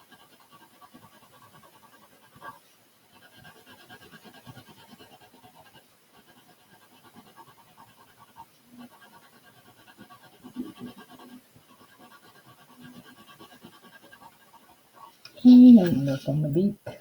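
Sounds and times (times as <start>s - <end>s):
pencil scratching on paper: 0.0s - 16.6s.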